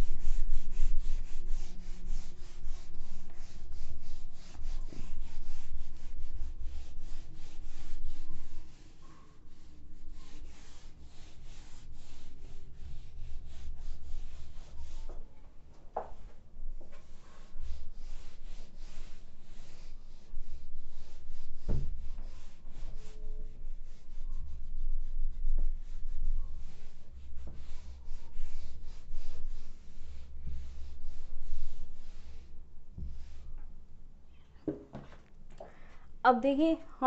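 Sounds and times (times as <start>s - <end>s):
duster rubbing on whiteboard: 0.0s - 33.7s.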